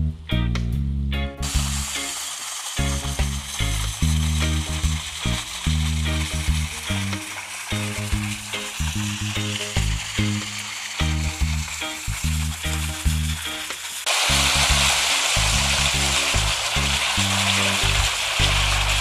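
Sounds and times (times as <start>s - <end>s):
reggae music: 0.0s - 19.0s.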